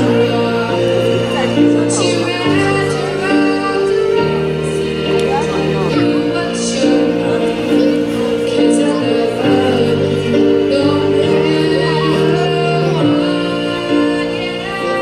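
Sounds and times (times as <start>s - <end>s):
instrumental backing music: 0.0s - 15.0s
woman singing into microphone: 0.0s - 15.0s.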